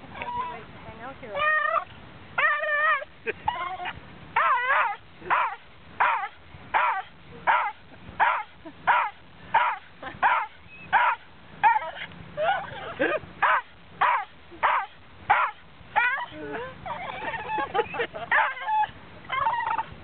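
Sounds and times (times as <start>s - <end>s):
dog yelping barks: 1.4s - 19.9s.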